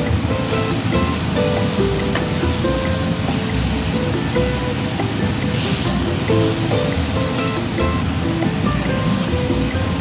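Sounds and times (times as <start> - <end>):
background music with held notes: 0.0 - 10.0
steady rushing hiss: 0.0 - 10.0.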